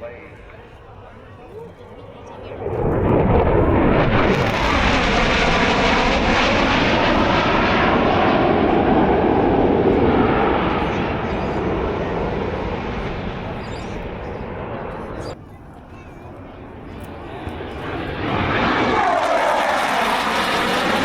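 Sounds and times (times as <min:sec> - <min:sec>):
jet flying past: 0:00.0 - 0:15.6, 0:16.2 - 0:21.0.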